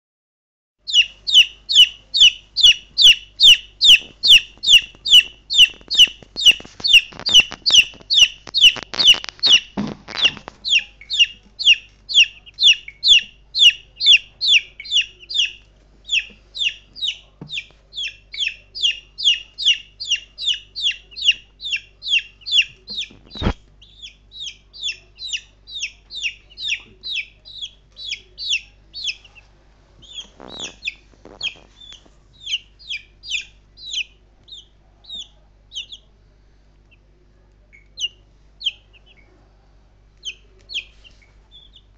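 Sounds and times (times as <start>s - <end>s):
chicks peeping loudly: 0.8s - 36.1s, 37.7s - 39.4s, 40.2s - 41.9s.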